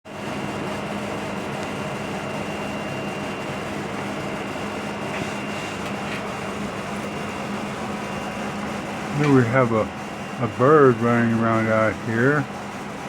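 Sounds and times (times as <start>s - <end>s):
machine hum: 0.1s - 13.0s.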